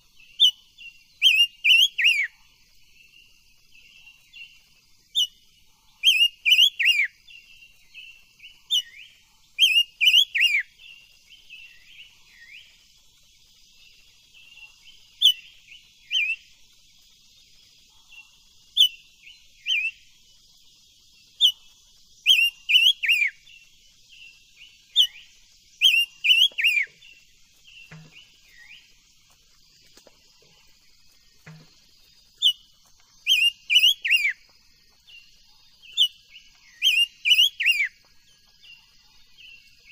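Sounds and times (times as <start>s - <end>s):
bird singing whistled notes: 0.0s - 29.8s, 30.4s - 39.9s.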